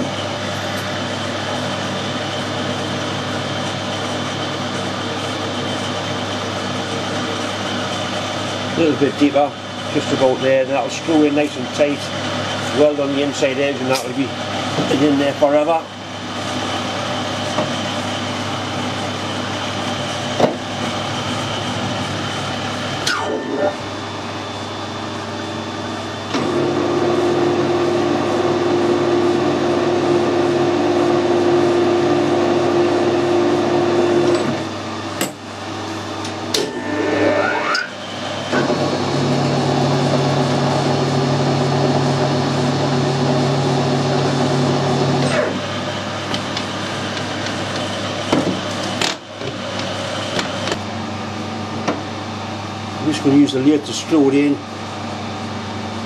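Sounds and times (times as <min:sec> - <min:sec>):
metal lathe running: 0:00.0 - 0:56.0.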